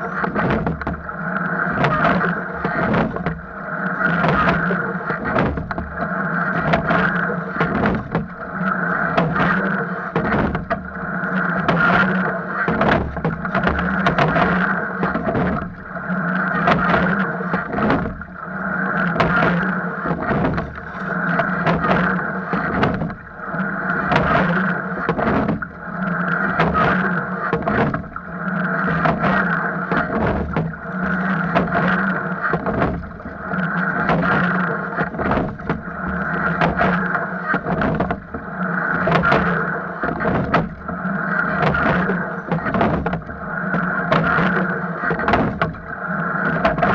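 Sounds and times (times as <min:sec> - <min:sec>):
oars knocking in oarlocks: 0:00.0 - 0:46.9
water rushing along hull: 0:00.0 - 0:46.9.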